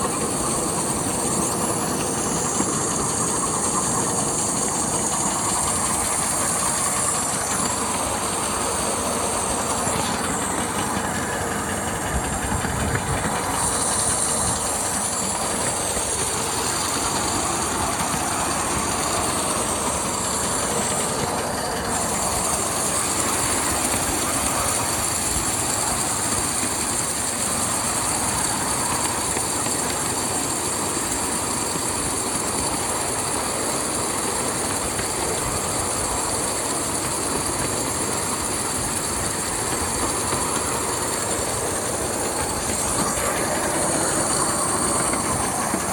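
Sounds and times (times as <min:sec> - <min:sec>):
steam hissing: 0:00.0 - 0:45.9
wheels clicking over rail joints: 0:00.0 - 0:45.9.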